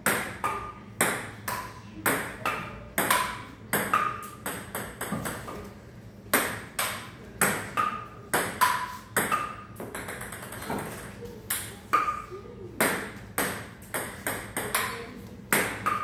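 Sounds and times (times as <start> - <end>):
ping-pong ball hits: 0.0 - 5.7, 6.3 - 16.0.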